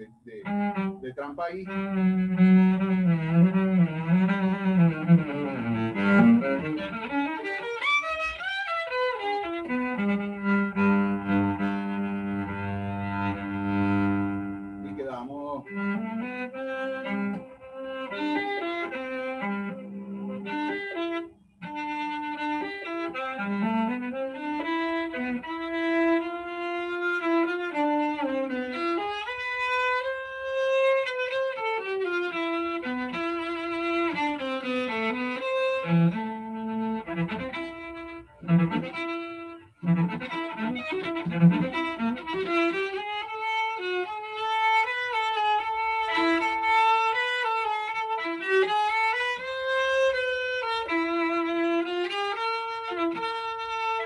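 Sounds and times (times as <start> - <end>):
bowed cello melody: 0.0 - 54.0.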